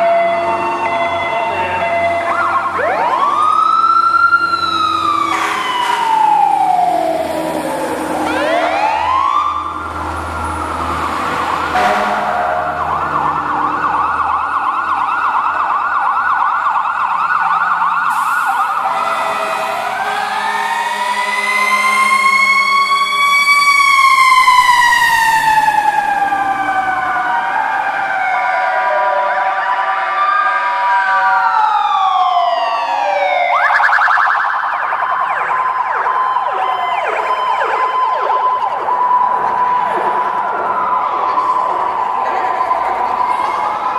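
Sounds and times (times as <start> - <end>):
fire engine sirens wailing: 0.0 - 43.9.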